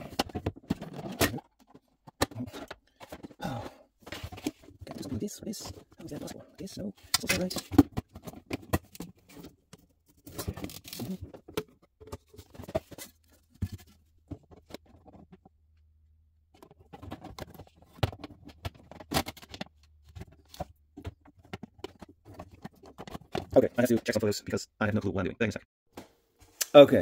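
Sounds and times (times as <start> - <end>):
plastic panels clicking and scraping: 0.0 - 3.4, 4.0 - 15.5, 16.5 - 24.2.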